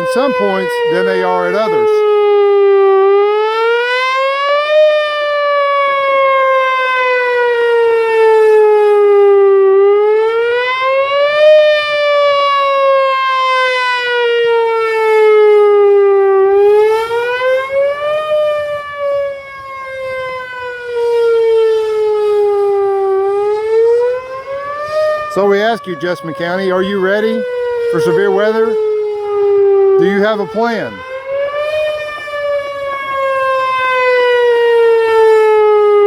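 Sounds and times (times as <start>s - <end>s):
tornado warning siren wailing: 0.0s - 36.0s.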